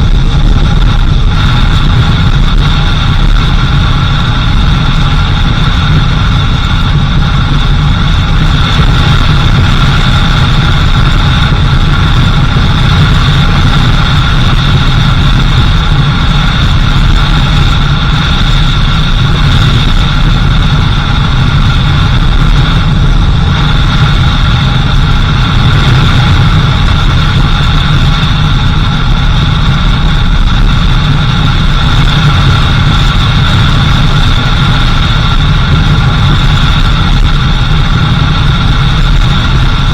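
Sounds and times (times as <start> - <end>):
steady high whine: 0.0 - 39.9
vehicle engine droning: 0.0 - 39.9.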